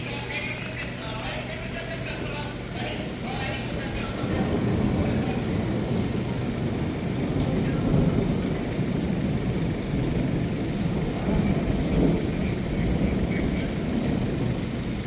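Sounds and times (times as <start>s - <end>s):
rain hissing: 0.0s - 15.0s
thunder rumbling: 0.0s - 15.0s.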